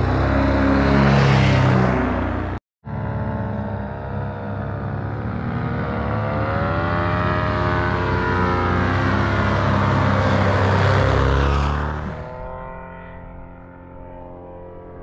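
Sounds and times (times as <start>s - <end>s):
paramotor engine droning: 0.0s - 15.0s.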